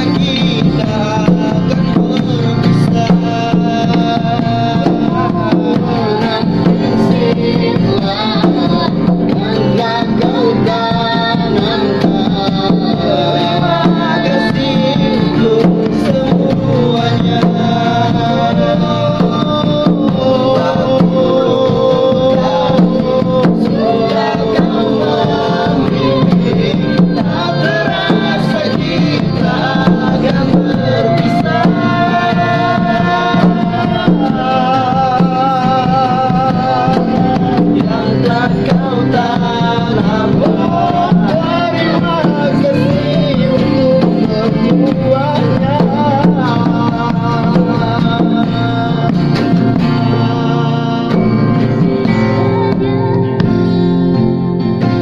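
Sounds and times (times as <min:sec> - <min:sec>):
acoustic guitar: 0:00.0 - 0:55.0
hand drum beat: 0:00.0 - 0:55.0.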